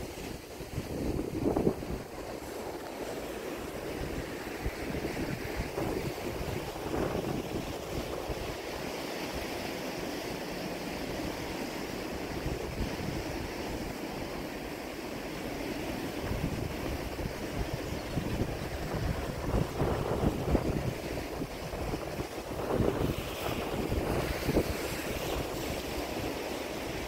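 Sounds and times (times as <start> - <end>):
wind buffeting the microphone: 0.0 - 9.5, 12.0 - 14.0, 16.0 - 27.0
sea waves: 0.0 - 27.0.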